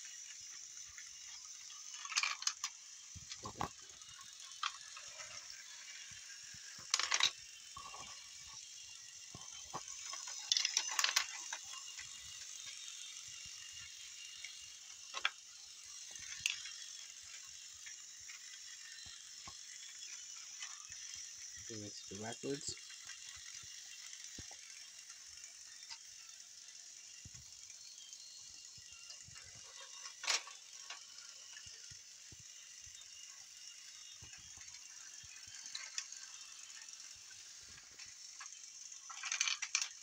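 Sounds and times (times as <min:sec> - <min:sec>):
toy train clicks and rattles: 0:00.0 - 0:40.0
toy train motor whirring: 0:00.0 - 0:40.0.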